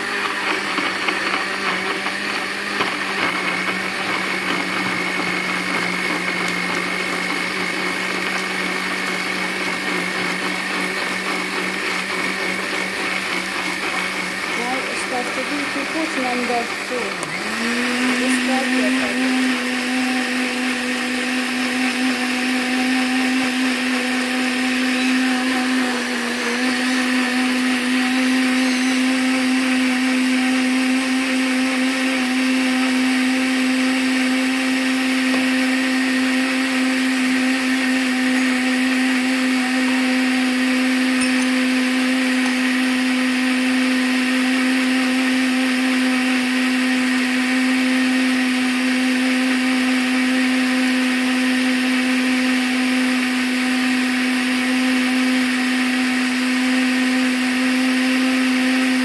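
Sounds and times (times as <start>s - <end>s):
blender motor running: 0.0s - 59.0s.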